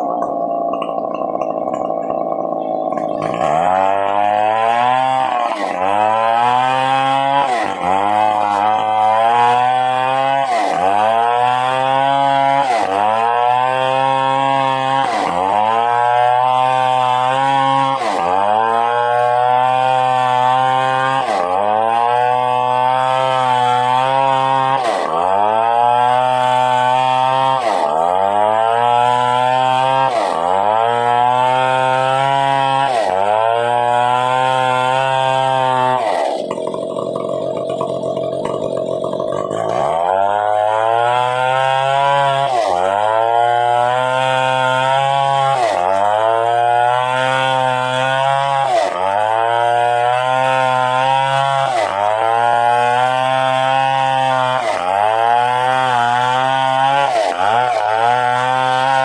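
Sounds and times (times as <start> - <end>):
chainsaw running under load: 0.0 - 59.0.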